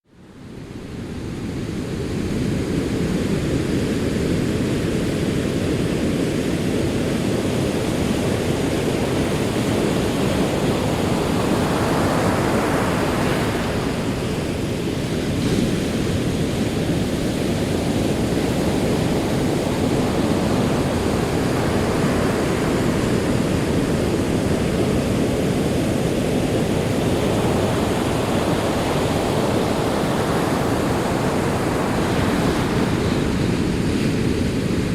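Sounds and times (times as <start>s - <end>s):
ocean waves breaking on shore: 0.2s - 34.9s.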